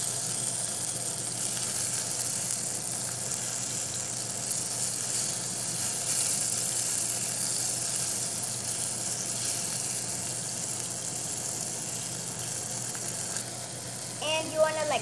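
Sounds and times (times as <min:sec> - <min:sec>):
tomatoes sizzling in oil: 0:00.0 - 0:15.0.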